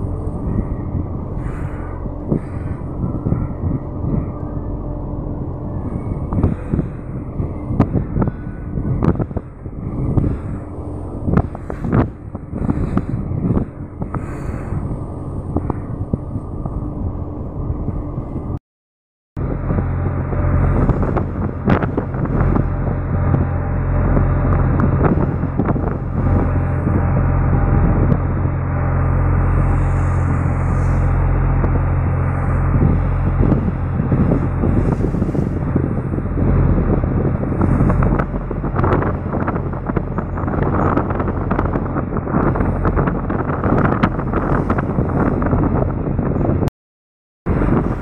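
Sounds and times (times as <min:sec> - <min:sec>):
ship engine drone: 0:00.0 - 0:18.6, 0:19.4 - 0:46.7, 0:47.5 - 0:48.0
water rushing along hull: 0:00.0 - 0:18.6, 0:19.4 - 0:46.6, 0:47.5 - 0:48.0
wind gusts on microphone: 0:00.0 - 0:18.6, 0:19.4 - 0:46.7, 0:47.5 - 0:48.0.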